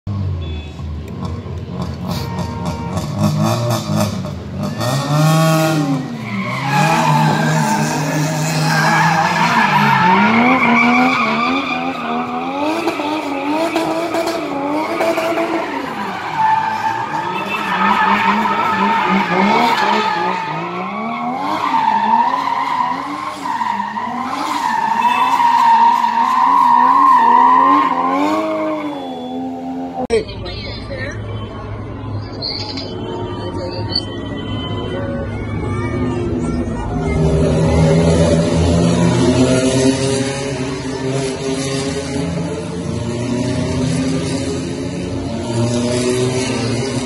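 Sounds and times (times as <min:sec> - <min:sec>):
car engine revving: 0:01.0 - 0:30.1, 0:36.7 - 0:47.0.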